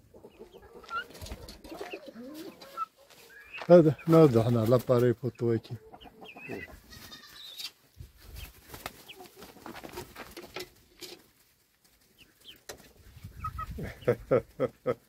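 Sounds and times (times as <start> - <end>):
farmyard birds chirping and clucking: 0.0 - 15.0.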